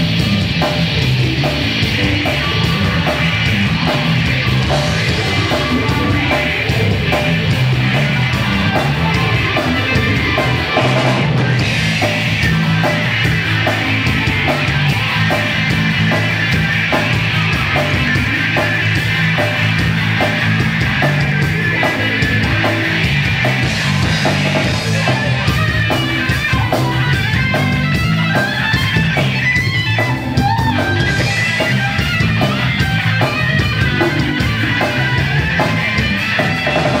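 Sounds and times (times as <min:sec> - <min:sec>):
driving drum beat: 0:00.0 - 0:37.0
electric bass: 0:00.0 - 0:37.0
electric guitar: 0:00.0 - 0:37.0.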